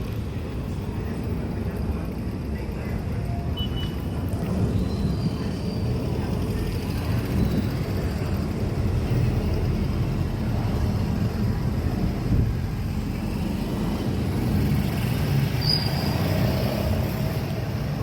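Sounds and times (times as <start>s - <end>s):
jet airliner engine rumble: 0.0s - 18.0s.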